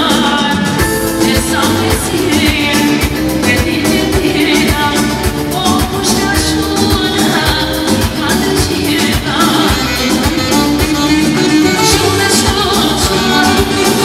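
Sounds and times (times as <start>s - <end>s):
person singing: 0.0s - 14.0s
upbeat dance music: 0.0s - 14.0s.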